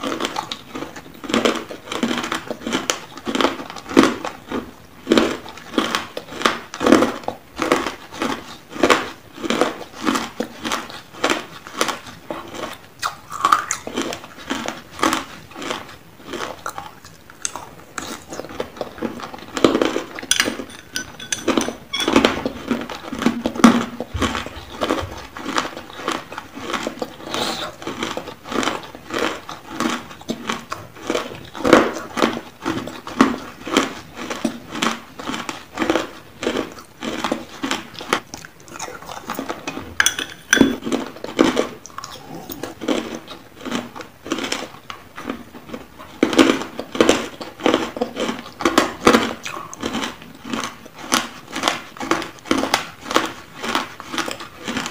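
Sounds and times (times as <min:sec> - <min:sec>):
person crunching hard food: 0:00.0 - 0:54.9.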